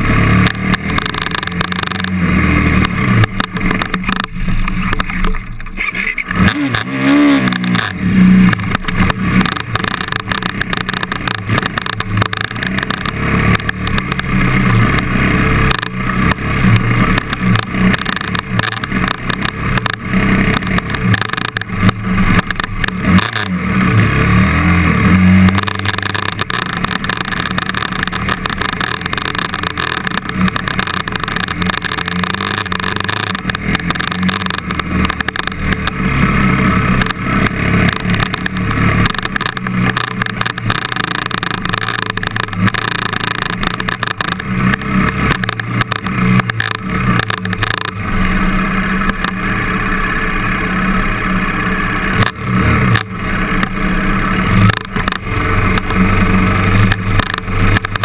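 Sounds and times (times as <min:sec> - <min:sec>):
trail bike engine revving: 0:00.0 - 0:58.0.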